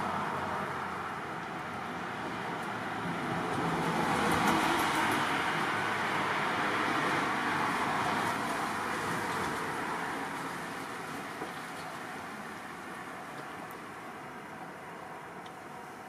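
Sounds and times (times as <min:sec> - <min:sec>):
road traffic hiss: 0:00.0 - 0:16.0.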